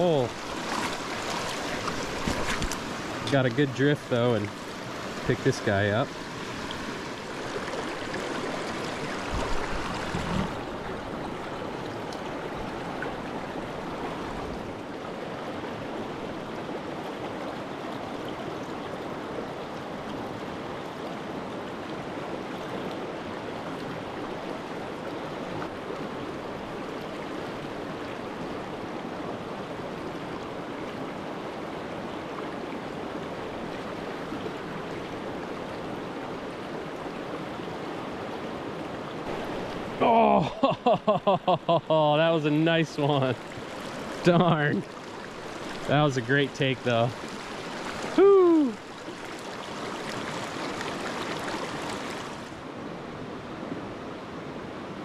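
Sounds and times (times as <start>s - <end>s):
creek flowing over stones: 0.0s - 55.0s.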